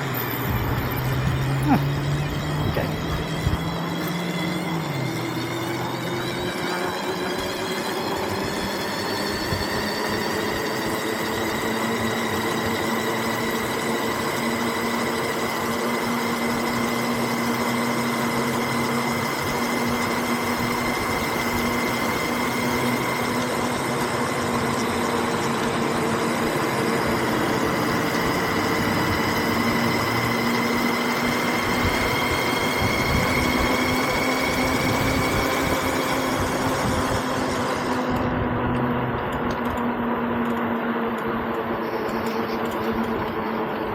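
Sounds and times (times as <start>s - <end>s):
road and wind noise: 0.0s - 43.9s
small vehicle motor whining: 0.0s - 43.9s.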